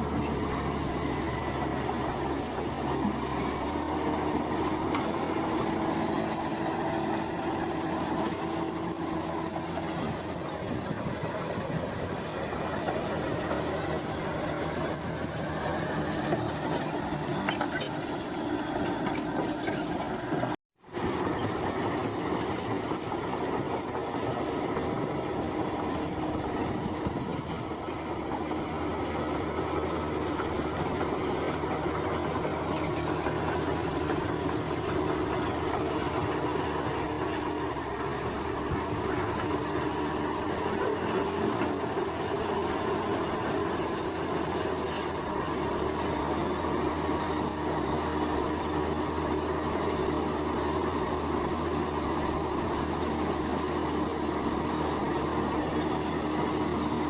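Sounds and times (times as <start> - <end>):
heavy machinery diesel engine: 0.0 - 57.0
machinery track noise: 0.0 - 57.0.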